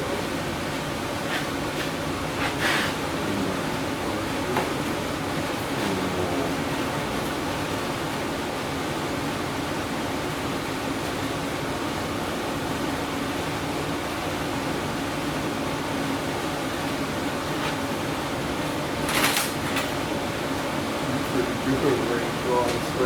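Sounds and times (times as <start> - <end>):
fan air noise: 0.0 - 23.0.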